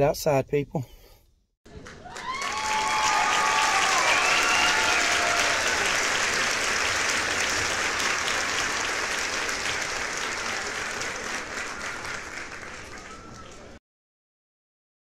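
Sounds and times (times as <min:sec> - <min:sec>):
crowd applauding: 0:01.7 - 0:13.8.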